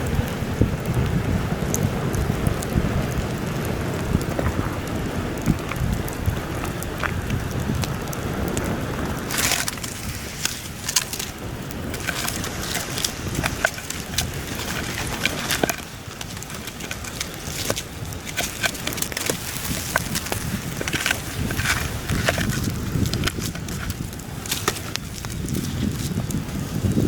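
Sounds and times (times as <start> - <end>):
campfire crackling and popping: 0.0 - 27.0
heavy wind rushing: 0.0 - 27.0.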